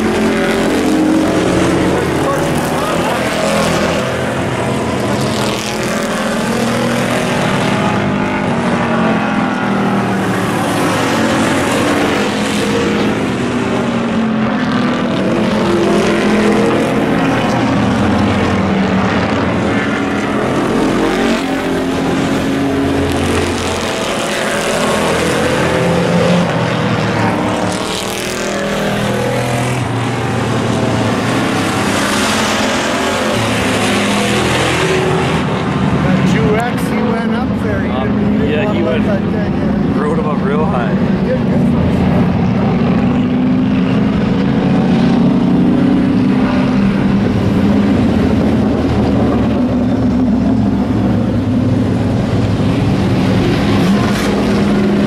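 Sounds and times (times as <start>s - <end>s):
racing truck engines: 0.0s - 55.0s.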